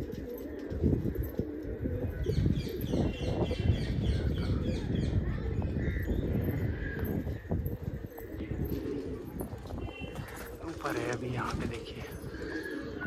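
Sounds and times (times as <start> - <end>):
pigeons cooing softly: 0.0 - 13.0.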